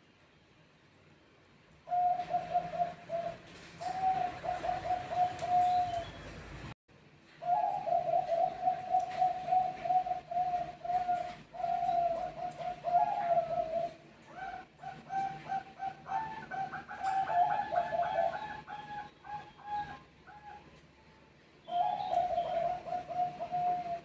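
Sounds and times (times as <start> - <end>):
dove singing clipped coos: 1.8 - 6.4, 7.4 - 20.8, 21.6 - 24.0.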